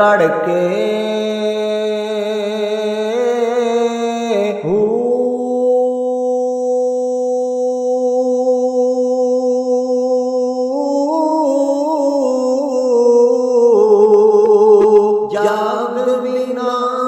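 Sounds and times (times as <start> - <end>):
man chanting verse: 0.0 - 17.0.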